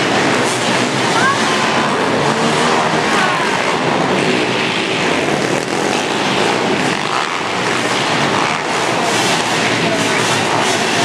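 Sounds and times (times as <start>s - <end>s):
pit bike engines racing: 0.0s - 11.0s.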